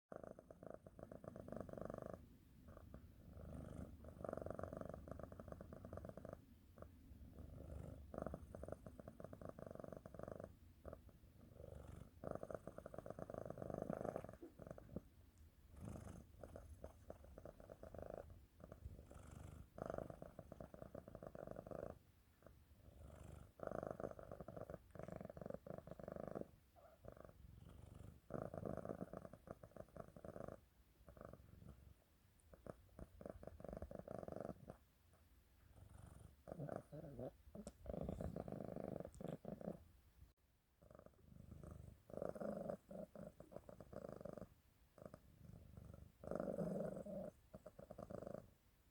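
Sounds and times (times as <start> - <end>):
cat purring: 0.1 - 48.9.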